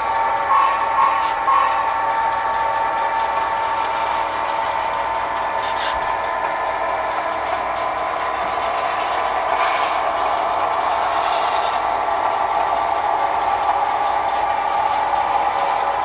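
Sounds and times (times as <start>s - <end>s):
diesel engine sound through speaker: 0.0s - 16.0s.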